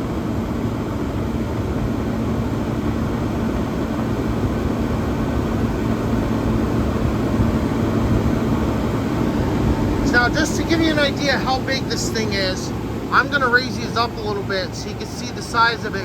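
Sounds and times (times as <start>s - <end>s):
air conditioner running: 0.0s - 16.0s.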